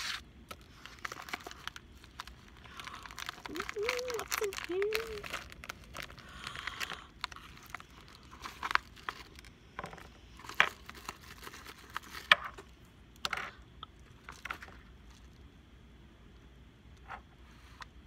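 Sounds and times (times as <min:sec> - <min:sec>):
packaging crinkling and rustling: 0:00.0 - 0:12.7, 0:13.4 - 0:15.4.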